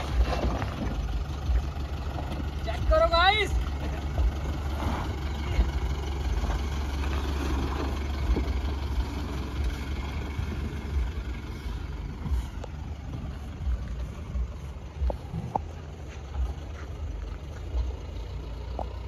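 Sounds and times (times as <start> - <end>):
suv engine rumbling: 0.0 - 19.0.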